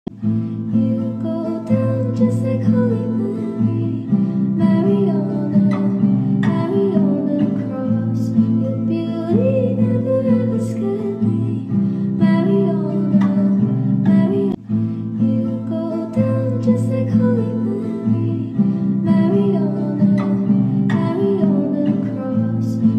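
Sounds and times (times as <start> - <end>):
acoustic guitar piece: 0.1 - 22.9.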